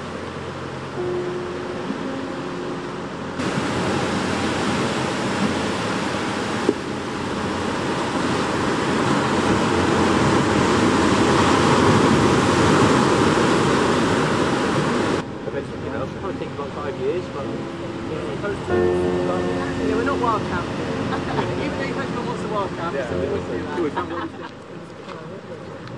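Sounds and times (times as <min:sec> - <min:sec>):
sea surf washing against rocks: 0:00.0 - 0:25.9.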